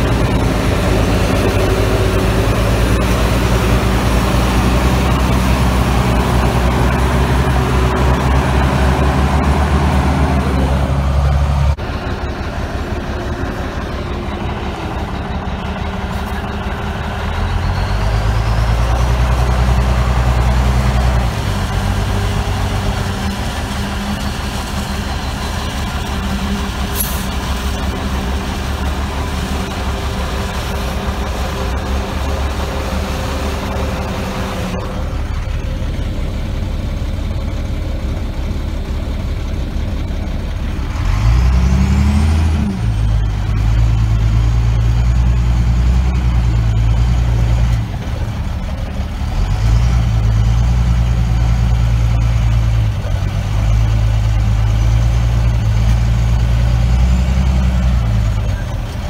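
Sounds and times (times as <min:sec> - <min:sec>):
diesel engines running: 0:00.0 - 0:59.0
heavy truck engine droning: 0:00.0 - 0:59.0.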